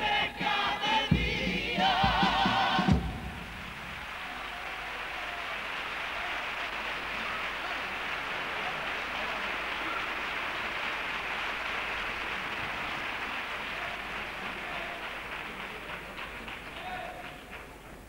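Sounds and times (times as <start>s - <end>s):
audience applauding: 3.4s - 18.0s.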